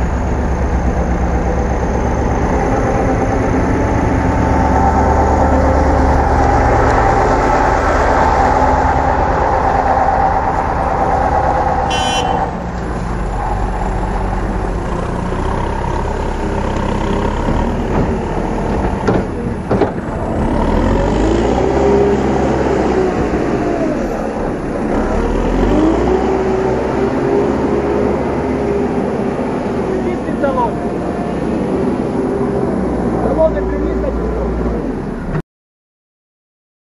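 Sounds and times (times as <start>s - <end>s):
diesel engine running hard: 0.0s - 35.4s.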